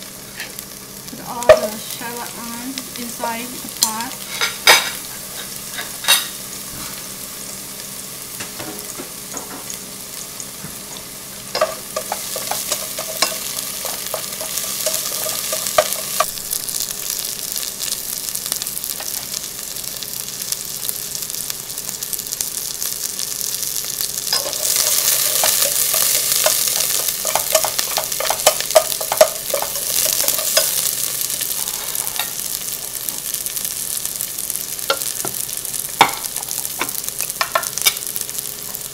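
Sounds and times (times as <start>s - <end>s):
shallots sizzling in oil: 0.0s - 38.9s.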